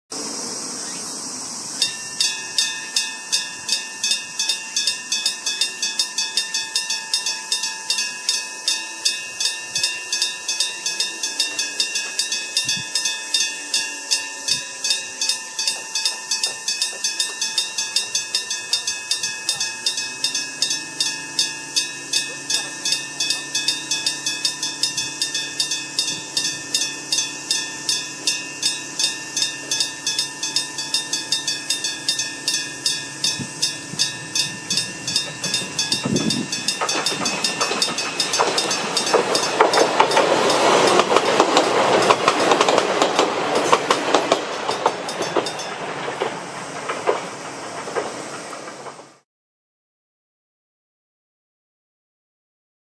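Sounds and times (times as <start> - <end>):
level crossing bell ringing: 1.8 - 46.2
train wheels clattering over rail joints: 1.8 - 49.2.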